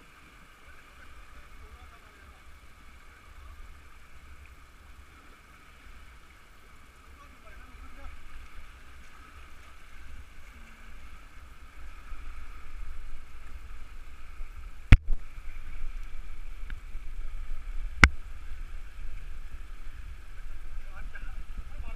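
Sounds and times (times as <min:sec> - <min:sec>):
river water rushing over boulders: 0:00.0 - 0:21.9.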